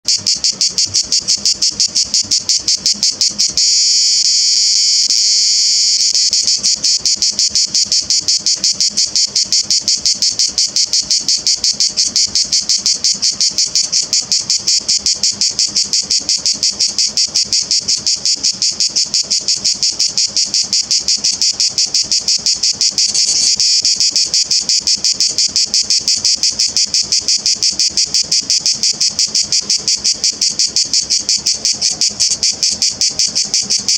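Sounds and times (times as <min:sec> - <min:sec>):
cicada buzzing: 0:00.1 - 0:33.9.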